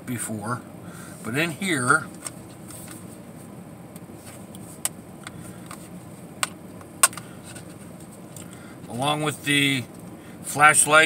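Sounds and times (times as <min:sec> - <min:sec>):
steady car interior hum: 0:00.0 - 0:11.0.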